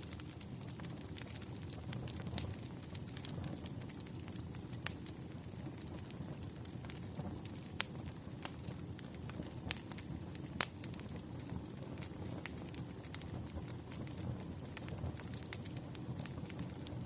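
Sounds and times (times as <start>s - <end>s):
sharp pops of burning logs: 0.0s - 17.0s
wood fire crackling: 0.0s - 17.0s.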